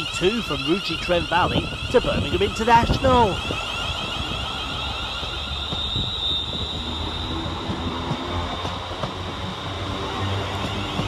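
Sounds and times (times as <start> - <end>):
high electric whine: 0.0 - 11.0
train wheels rumbling on rails: 0.0 - 11.0.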